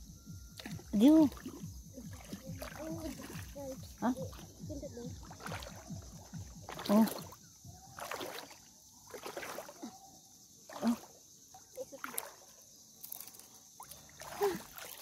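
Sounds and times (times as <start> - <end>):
shallow water splashing: 0.5 - 10.0, 10.6 - 15.0.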